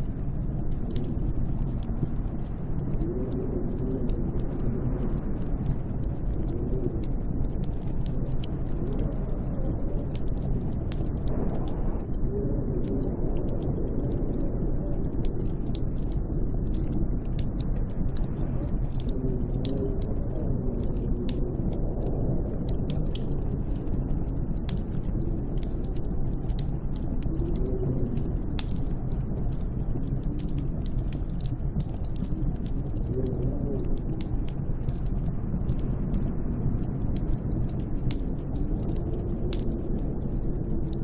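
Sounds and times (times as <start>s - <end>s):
howling snowstorm wind: 0.0s - 41.0s
sharp crackling clicks: 0.0s - 41.0s.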